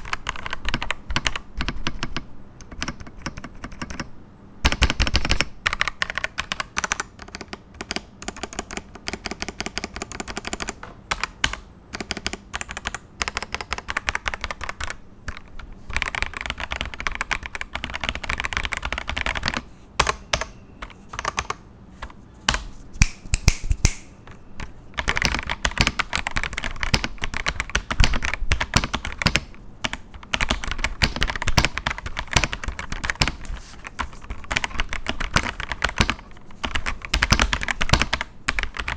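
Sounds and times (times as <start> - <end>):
fast mechanical keyboard typing: 0.0 - 21.6, 24.6 - 38.9.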